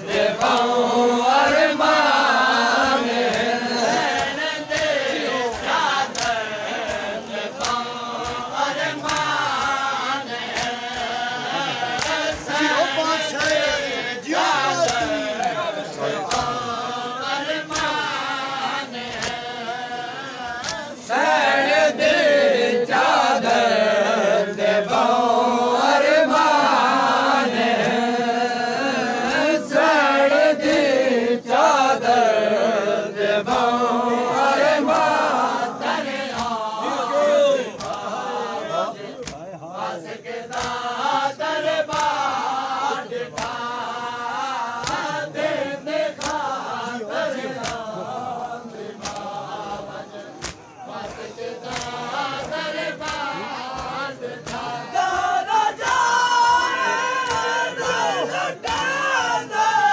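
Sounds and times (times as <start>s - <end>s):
men chanting in chorus: 0.0s - 59.9s.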